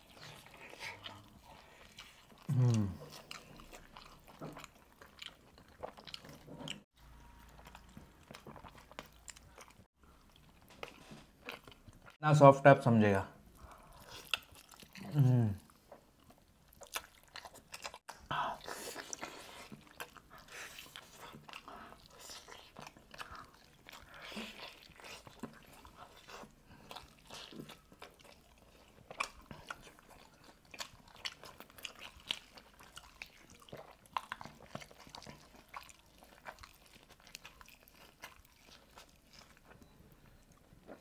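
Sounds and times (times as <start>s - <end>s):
chewing and biting: 0.0s - 12.2s, 13.6s - 15.2s, 15.9s - 41.0s.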